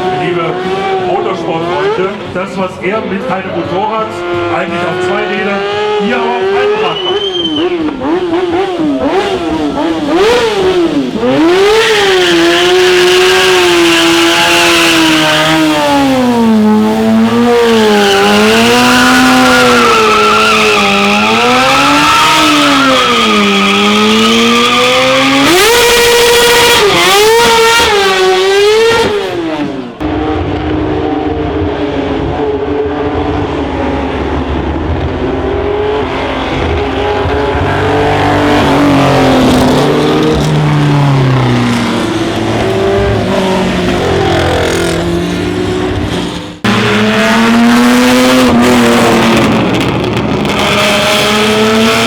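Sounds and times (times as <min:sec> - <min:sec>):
racing car engine revving: 0:00.0 - 0:52.0.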